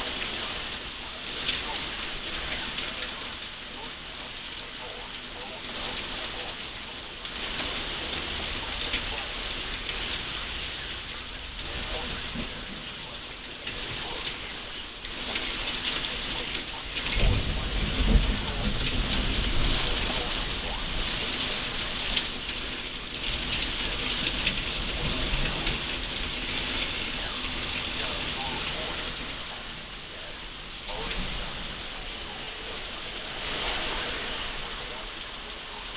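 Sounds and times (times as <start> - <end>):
heavy rain pouring: 0.0 - 35.9
thunder rumbling: 0.0 - 35.9.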